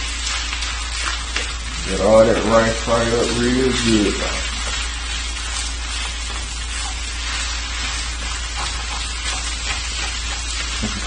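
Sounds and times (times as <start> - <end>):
rice sizzling in a wok: 0.0 - 11.0.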